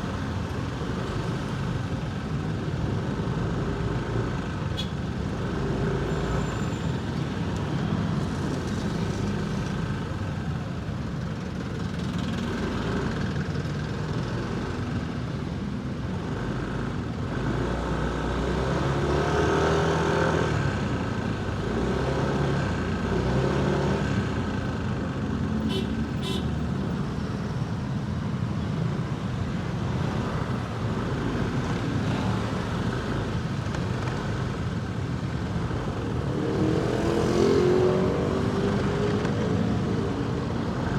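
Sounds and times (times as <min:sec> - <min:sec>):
road traffic: 0:00.0 - 0:40.9.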